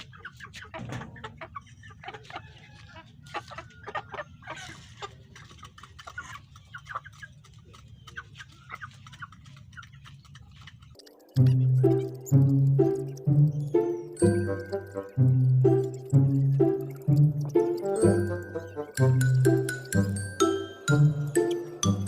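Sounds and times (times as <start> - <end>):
chickens clucking and peeping: 0.0 - 22.0.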